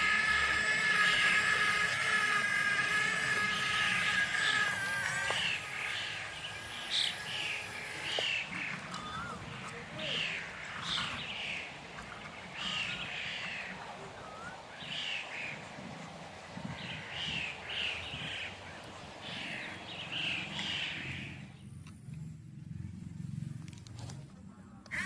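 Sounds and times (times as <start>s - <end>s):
harsh bird calls: 0.0s - 21.8s.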